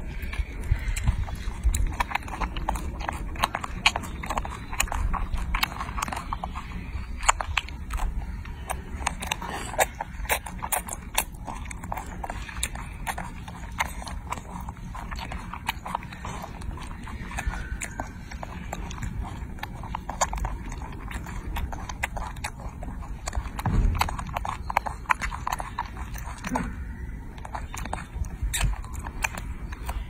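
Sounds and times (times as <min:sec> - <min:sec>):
monkey chewing and smacking: 0:00.0 - 0:30.0
steady low hum: 0:00.0 - 0:30.0.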